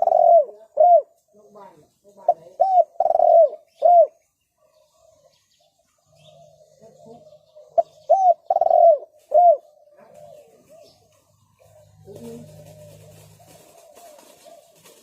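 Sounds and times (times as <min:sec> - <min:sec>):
dove cooing: 0:00.0 - 0:01.2, 0:02.2 - 0:15.0.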